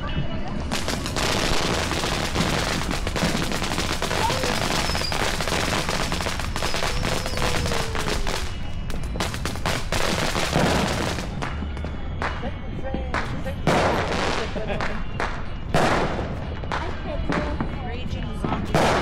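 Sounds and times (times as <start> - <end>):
firework fountain hissing and crackling: 0.5 - 12.4, 13.1 - 17.6.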